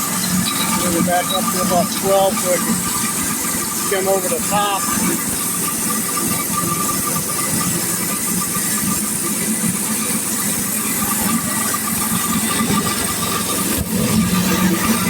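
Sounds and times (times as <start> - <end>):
constant whine: 0.0 - 15.0
sawmill engine running: 0.0 - 15.0.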